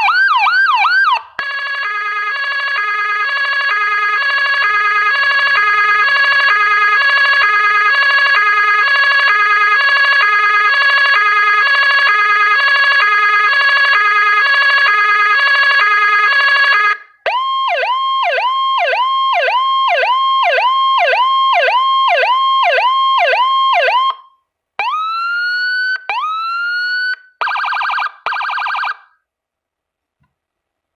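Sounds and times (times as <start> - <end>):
electronic siren: 0.0 - 29.1.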